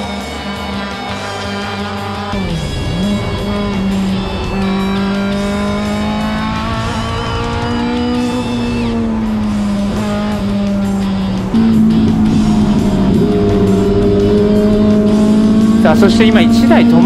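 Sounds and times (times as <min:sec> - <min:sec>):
car engine at high revs: 0:00.0 - 0:17.0
guitar music: 0:00.0 - 0:17.0.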